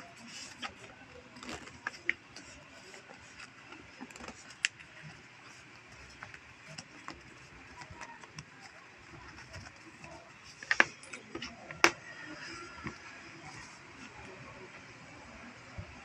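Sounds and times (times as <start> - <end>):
fabric handling rustles: 0.0 - 15.2.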